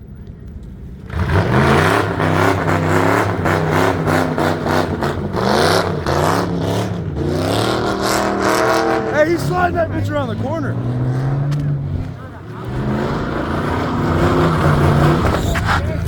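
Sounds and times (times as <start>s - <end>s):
car engine revving: 0.8s - 16.0s.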